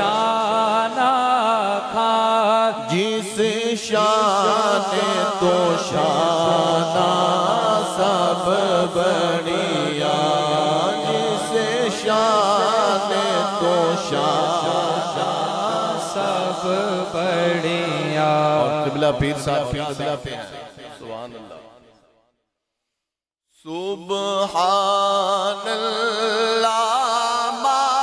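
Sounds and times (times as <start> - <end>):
man chanting devotional recitation: 0.0 - 21.8, 23.6 - 28.0.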